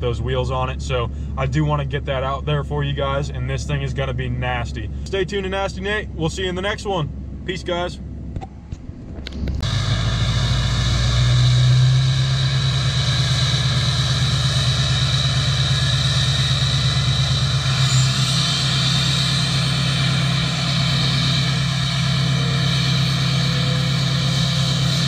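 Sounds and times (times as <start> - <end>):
diesel engine idling: 0.0 - 8.4, 9.2 - 25.0.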